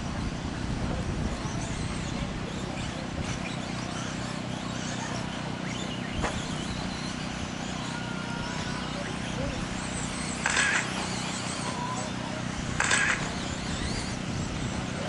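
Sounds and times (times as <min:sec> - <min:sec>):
electric toy car motors whining: 0:00.0 - 0:15.0.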